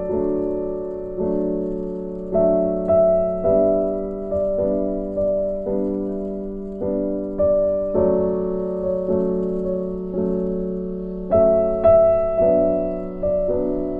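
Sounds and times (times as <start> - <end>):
slow piano chords: 0.0 - 13.9.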